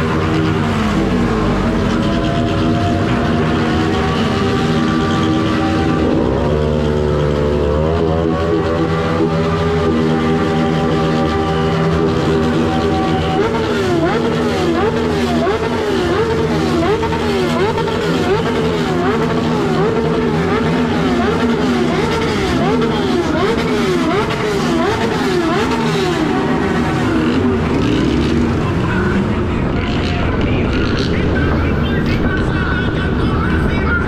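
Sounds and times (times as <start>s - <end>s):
rising and falling wail: 0.0s - 27.8s
motorcycle engines running: 0.0s - 34.0s.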